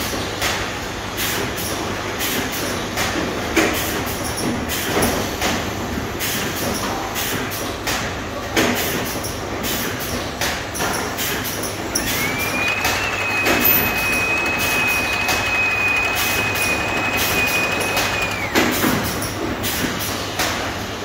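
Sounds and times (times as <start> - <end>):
machinery and conveyor hum: 0.0 - 21.0.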